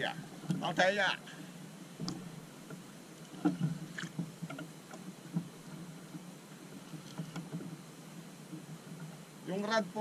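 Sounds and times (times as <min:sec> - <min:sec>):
steady low hum: 0:00.0 - 0:10.0
water lapping at boat hull: 0:00.0 - 0:10.0.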